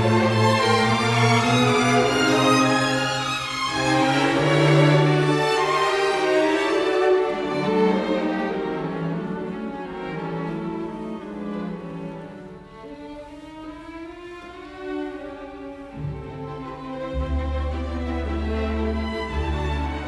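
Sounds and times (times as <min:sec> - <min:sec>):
slow bowed strings: 0:00.0 - 0:20.0.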